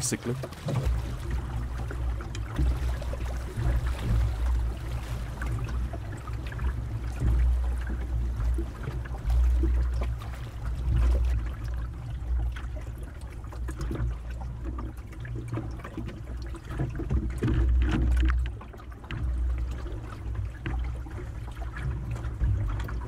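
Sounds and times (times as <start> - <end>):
water splashing along hull: 0.0 - 23.0.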